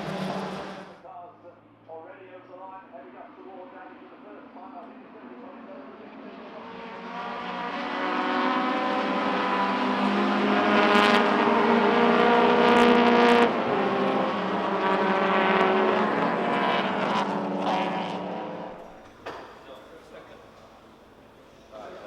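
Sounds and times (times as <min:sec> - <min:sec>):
racing car engines passing at speed: 0:00.0 - 0:22.0.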